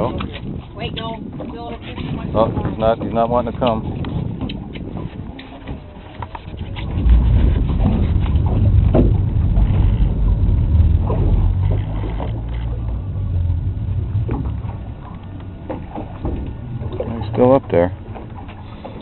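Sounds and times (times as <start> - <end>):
boat engines rumbling: 0.0 - 19.0.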